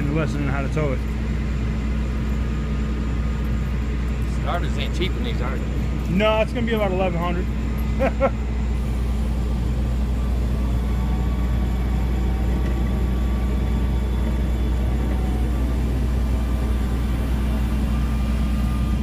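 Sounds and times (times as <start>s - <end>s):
faint hum: 0.0s - 19.0s
truck engine running: 0.0s - 19.0s.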